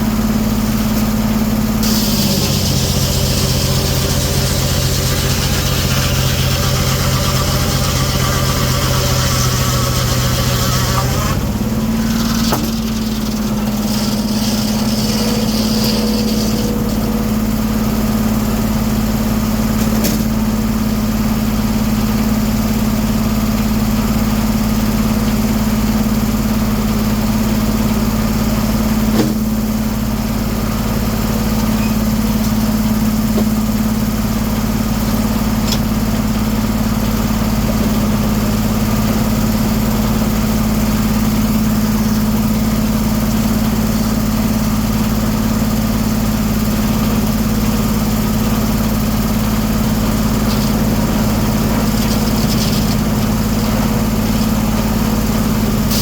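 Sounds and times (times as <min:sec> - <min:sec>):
circular sawmill humming: 0:00.0 - 0:56.0.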